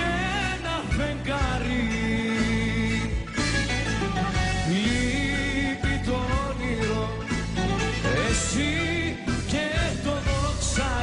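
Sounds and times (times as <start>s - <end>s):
live band playing slow song: 0.0s - 11.0s.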